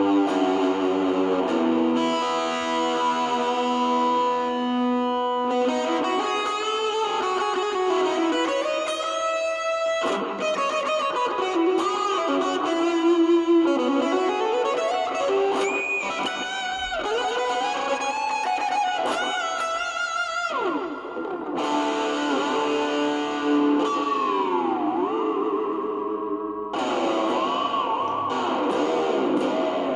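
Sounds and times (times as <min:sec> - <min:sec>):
distorted electric guitar lead: 0:00.0 - 0:29.9.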